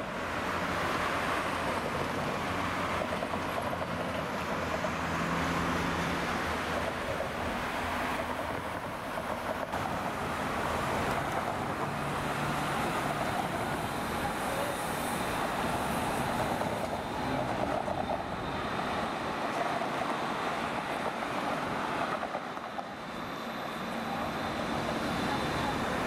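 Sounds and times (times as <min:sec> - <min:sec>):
cars passing close by: 0:00.0 - 0:26.0
tram rolling past: 0:00.0 - 0:26.0.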